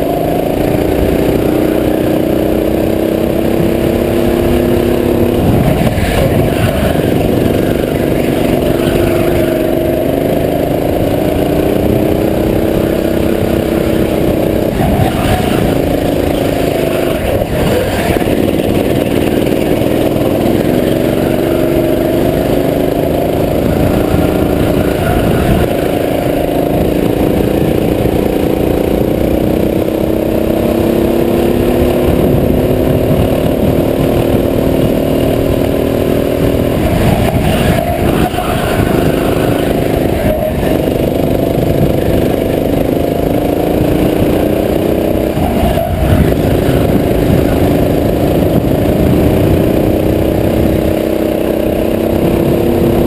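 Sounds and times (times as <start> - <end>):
go-kart engine revving: 0.0 - 53.0.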